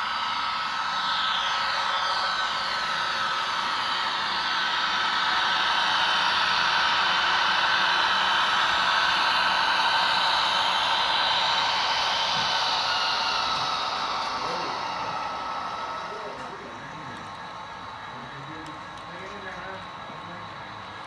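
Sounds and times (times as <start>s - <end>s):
faint whining tones: 0.0s - 21.0s
model train motor whirring: 0.0s - 21.0s.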